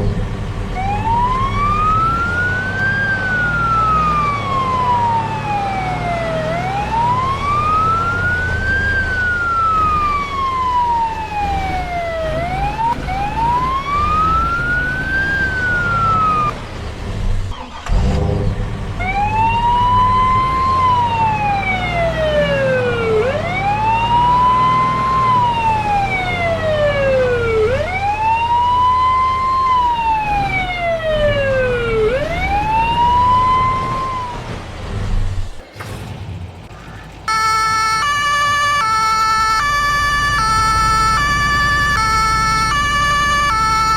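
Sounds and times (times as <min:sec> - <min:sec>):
emergency vehicle siren wailing: 0:00.6 - 0:16.6, 0:18.9 - 0:34.9, 0:37.0 - 0:43.9.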